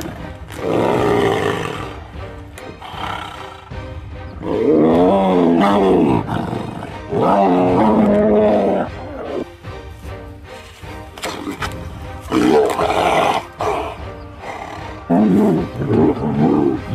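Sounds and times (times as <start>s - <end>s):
tigers roaring: 0.0s - 3.8s, 4.4s - 9.5s, 11.3s - 16.9s
background music: 0.0s - 16.9s.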